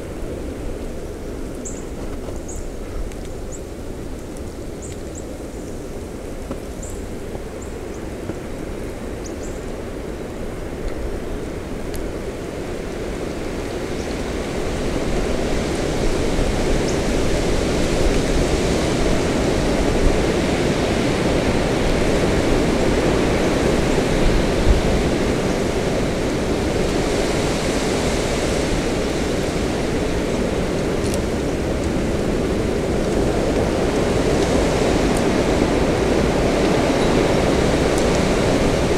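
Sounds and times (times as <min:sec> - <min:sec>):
wind gusting through trees: 0:00.0 - 0:38.9.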